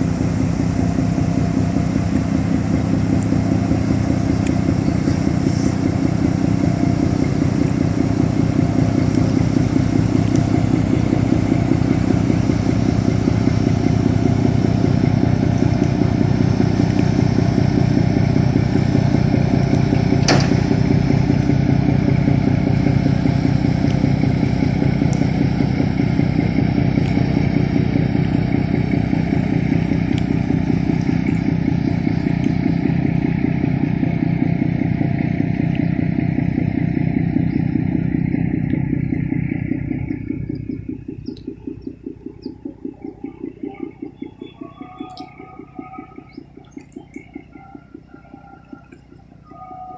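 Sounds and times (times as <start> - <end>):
boat engine running: 0.0 - 49.9.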